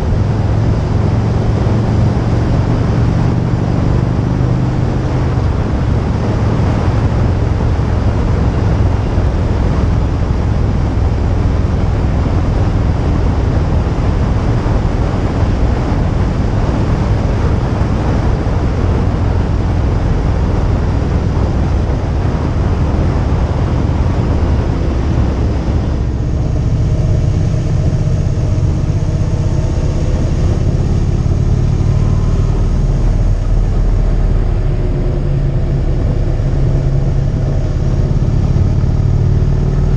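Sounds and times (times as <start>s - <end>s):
motorcycle engine: 0.0s - 39.9s
road noise: 0.0s - 39.9s
wind rushing over microphone: 0.0s - 39.9s.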